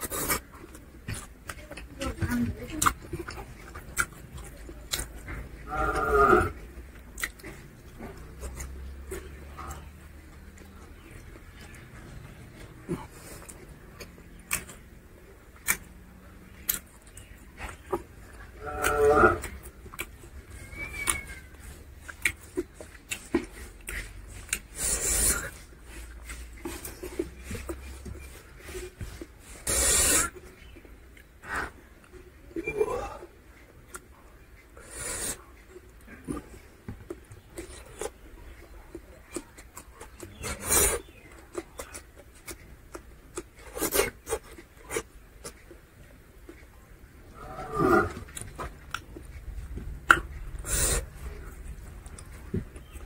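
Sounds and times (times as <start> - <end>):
chewing and lip-smacking: 0.0 - 5.7, 6.5 - 32.7, 33.4 - 47.1, 48.1 - 53.0.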